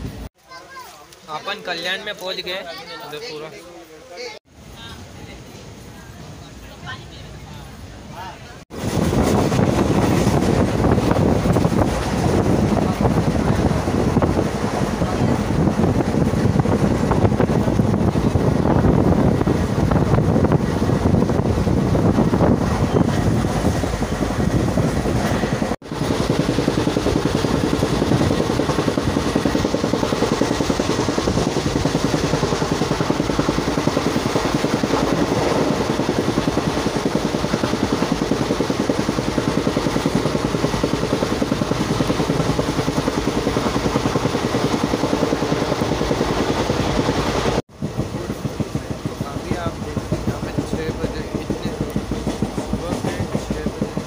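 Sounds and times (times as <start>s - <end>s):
train wheels on rails: 8.7s - 54.0s.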